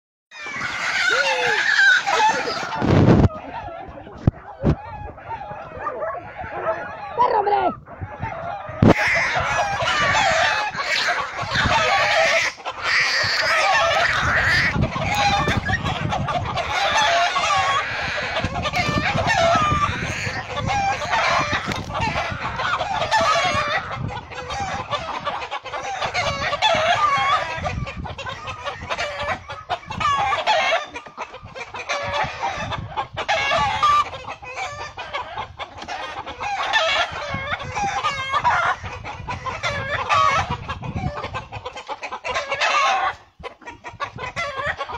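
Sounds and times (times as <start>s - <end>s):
hen squawking and cackling: 0.3s - 44.9s.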